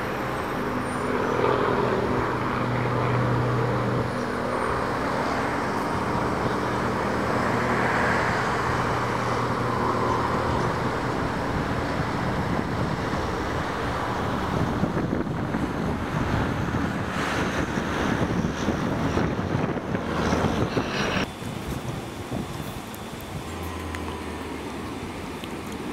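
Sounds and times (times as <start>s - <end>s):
bus humming driving off: 0.0s - 17.1s, 19.2s - 25.9s
road traffic rumble: 0.0s - 25.9s.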